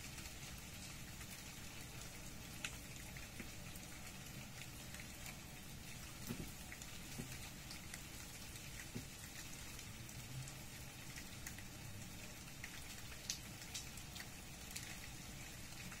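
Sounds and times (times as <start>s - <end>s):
light rain hissing: 0.0s - 16.0s
raindrops ticking: 0.0s - 16.0s.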